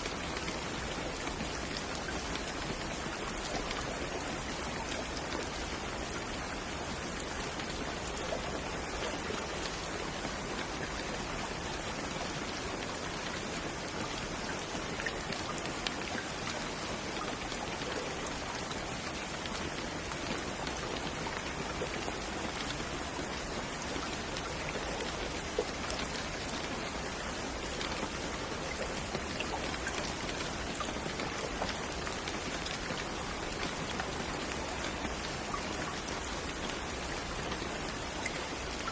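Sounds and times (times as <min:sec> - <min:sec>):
raindrops ticking on a surface: 0:00.0 - 0:38.9
steady rain hissing: 0:00.0 - 0:38.9.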